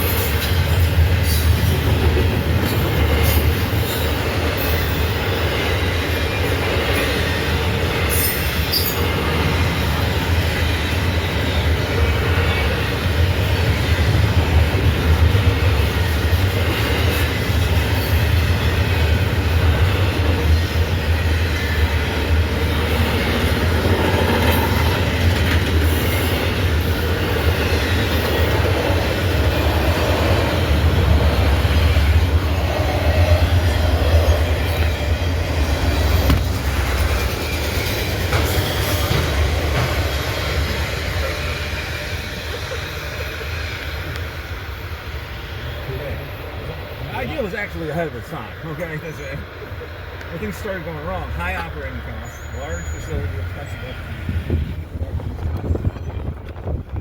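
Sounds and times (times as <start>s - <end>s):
freight train rumbling on rails: 0.0s - 57.0s.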